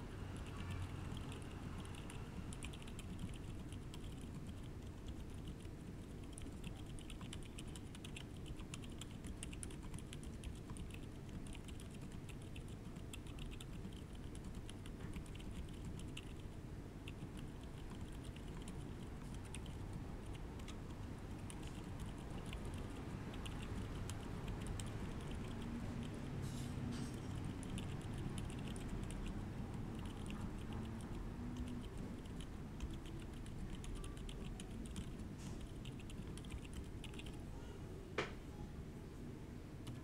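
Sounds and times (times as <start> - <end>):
low background hum: 0.0 - 40.0
typing on mechanical keyboard: 0.4 - 16.4, 17.1 - 20.8, 23.4 - 26.2, 27.4 - 37.4.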